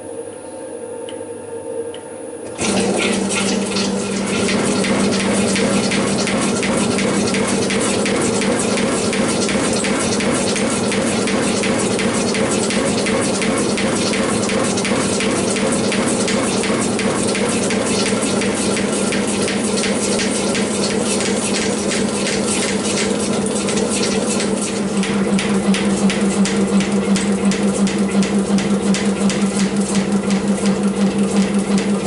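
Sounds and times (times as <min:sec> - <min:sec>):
motor hum: 0:01.9 - 0:32.0.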